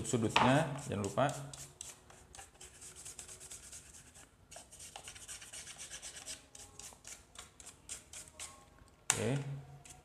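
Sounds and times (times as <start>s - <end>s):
toothbrush scrubbing: 0.0s - 8.6s.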